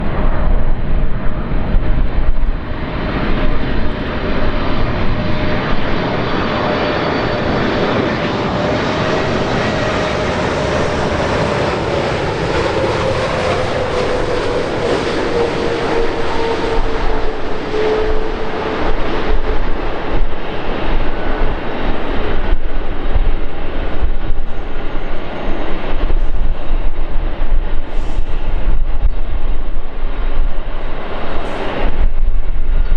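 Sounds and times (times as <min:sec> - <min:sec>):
jet engines rushing: 0:00.0 - 0:32.9
wind gusts on microphone: 0:00.0 - 0:32.9.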